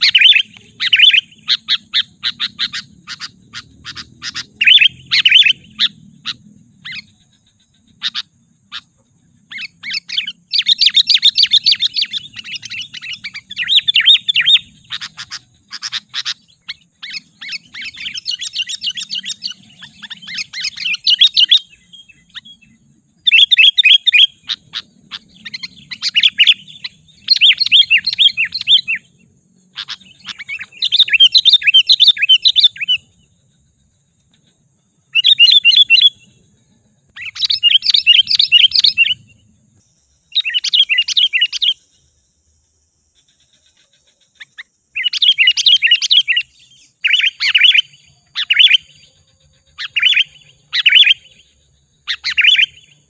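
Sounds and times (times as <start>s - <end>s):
bird chattering calls: 0.0s - 33.2s, 34.3s - 36.3s, 37.2s - 39.3s, 40.3s - 41.8s, 43.2s - 53.0s.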